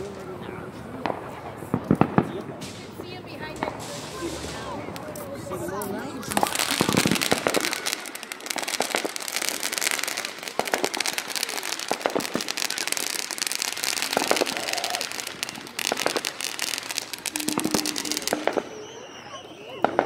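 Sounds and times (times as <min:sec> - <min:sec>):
firework fountain crackling: 0:00.0 - 0:20.0.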